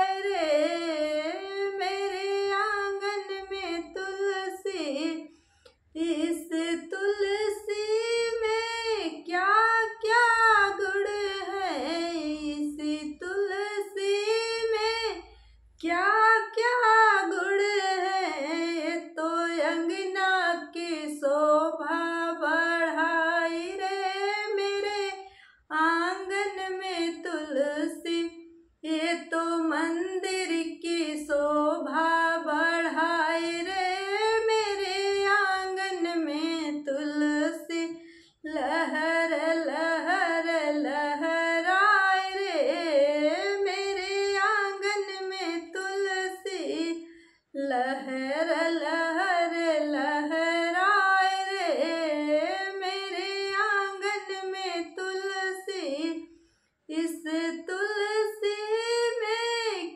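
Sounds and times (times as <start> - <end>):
woman singing unaccompanied: 0.0 - 5.3, 6.0 - 56.3, 56.9 - 59.9.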